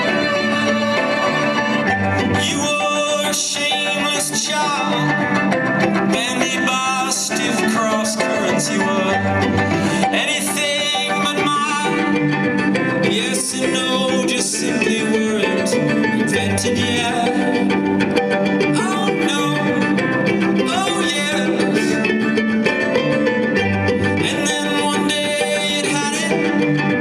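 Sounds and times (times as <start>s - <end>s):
live band instrumental: 0.0s - 27.0s
plucked strings: 0.0s - 27.0s.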